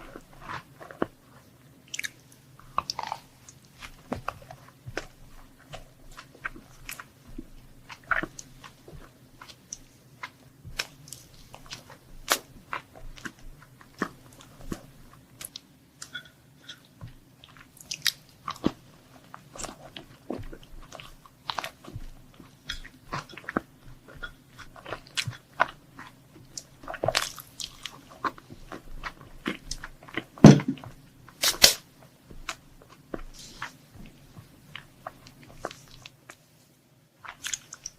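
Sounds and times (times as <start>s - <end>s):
chewing crunchy sweets: 0.0s - 36.4s, 37.2s - 37.9s.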